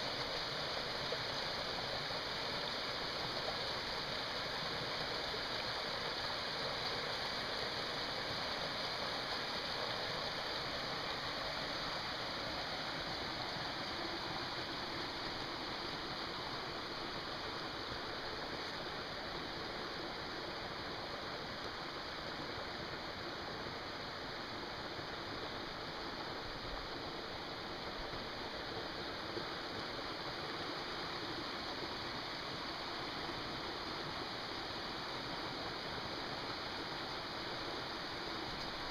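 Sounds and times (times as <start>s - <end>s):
creek running over rocks: 0.0s - 38.9s.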